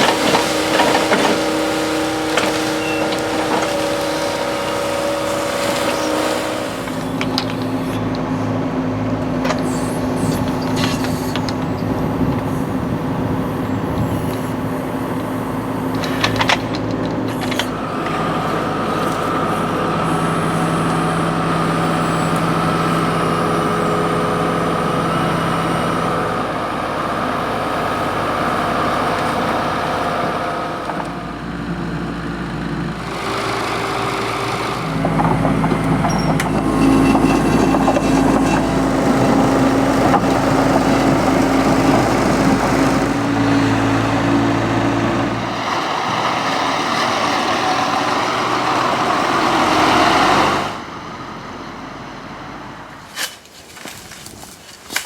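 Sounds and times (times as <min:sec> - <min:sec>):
heavy machinery engines running: 0:00.0 - 0:55.0.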